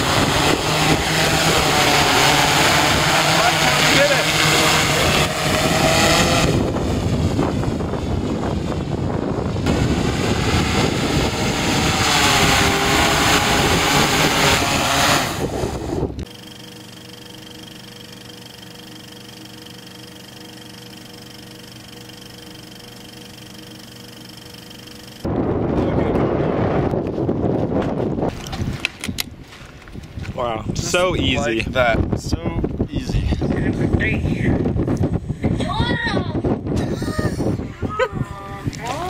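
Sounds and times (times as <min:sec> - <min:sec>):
drone propellers whirring: 0:00.0 - 0:39.0.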